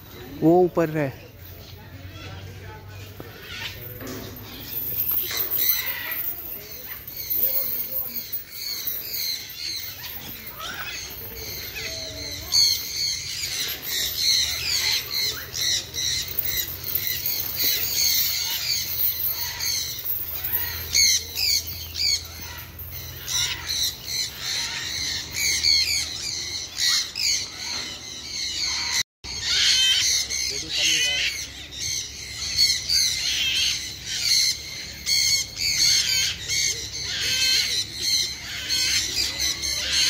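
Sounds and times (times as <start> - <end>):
parrots squawking and chattering: 1.6 - 40.0.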